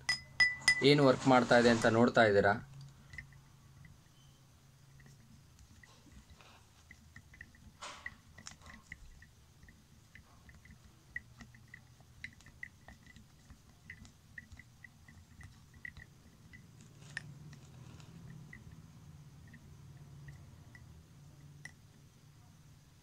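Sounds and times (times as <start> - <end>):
spoon tapping glass: 0.0 - 1.0, 2.8 - 22.1.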